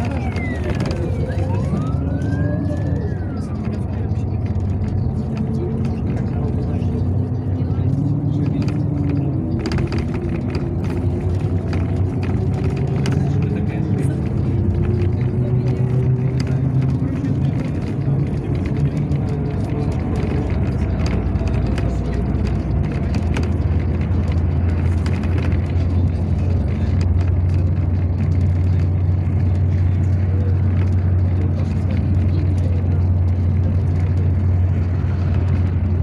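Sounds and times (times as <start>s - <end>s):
bus body rattling and clicking: 0.0s - 36.0s
bus engine drone: 0.0s - 36.0s.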